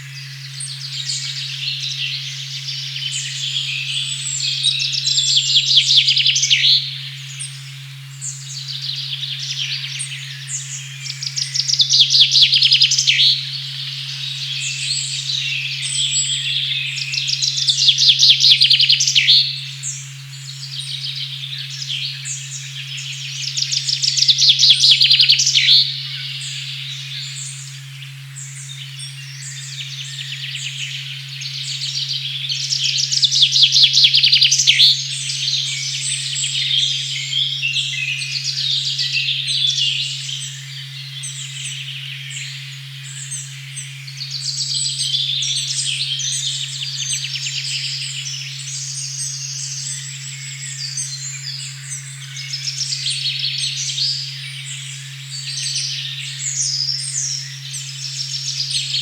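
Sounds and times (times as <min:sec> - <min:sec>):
birds singing and trilling: 0:00.0 - 0:59.0
low sine tone hum: 0:00.0 - 0:59.0.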